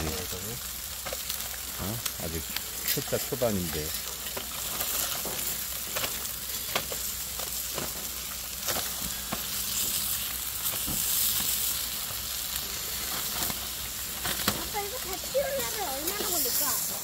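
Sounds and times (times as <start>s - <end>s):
steaks sizzling on a grill: 0.0s - 17.0s.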